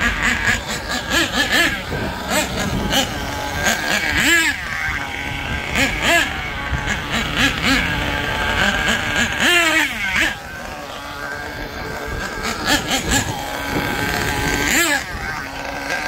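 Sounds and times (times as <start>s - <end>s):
toy car engine revving: 0.0s - 16.0s.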